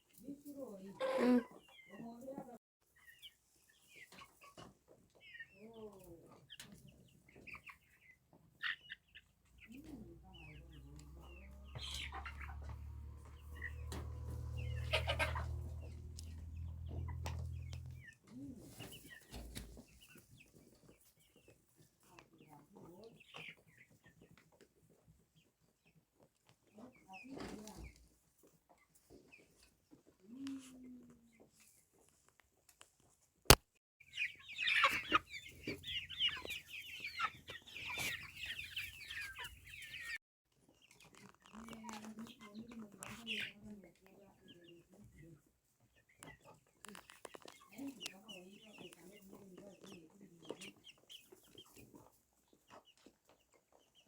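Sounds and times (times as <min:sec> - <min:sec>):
chickens clucking: 0:00.1 - 0:33.3, 0:34.0 - 0:54.0.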